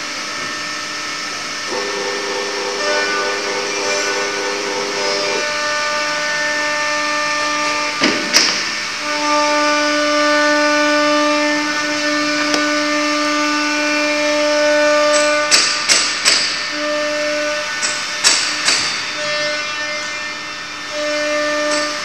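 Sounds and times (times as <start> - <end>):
wood router hiss and whine: 0.0 - 22.0.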